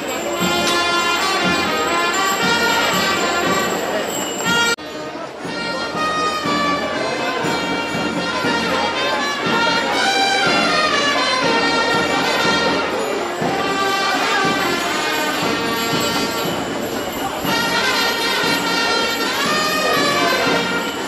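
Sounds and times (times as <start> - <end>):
horn-like wind instruments melody: 0.0 - 21.0
percussion: 0.0 - 21.0.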